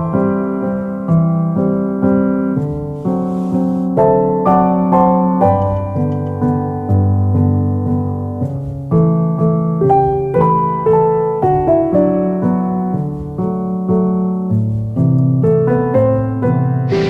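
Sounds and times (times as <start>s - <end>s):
gentle solo piano melody: 0.0s - 16.9s.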